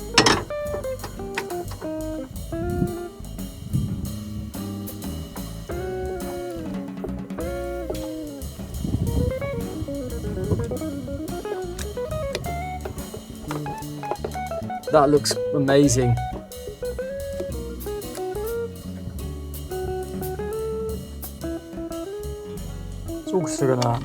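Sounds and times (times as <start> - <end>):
jazzy guitar instrumental: 0.0 - 24.0.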